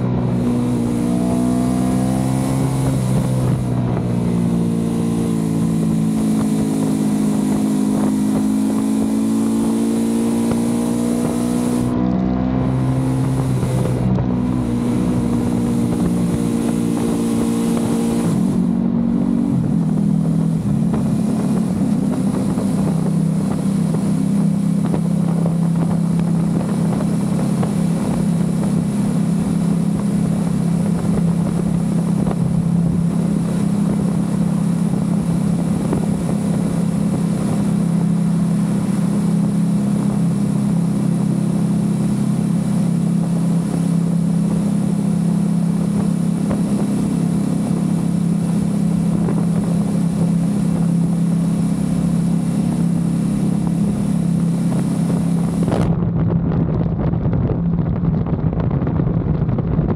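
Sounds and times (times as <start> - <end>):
motorcycle engine cruising in a tunnel: 0.0 - 59.9.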